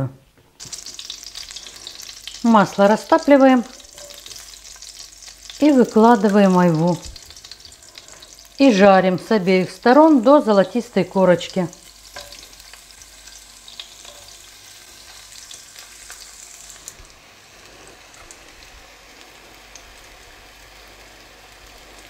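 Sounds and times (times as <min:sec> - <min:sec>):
fruit slices sizzling in a pan: 0:00.6 - 0:22.0.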